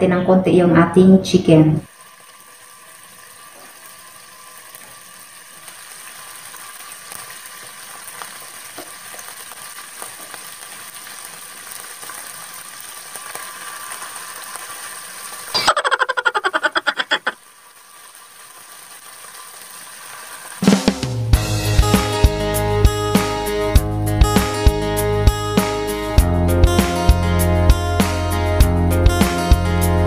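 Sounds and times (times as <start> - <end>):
chicken sizzling in oil: 1.9 - 29.7.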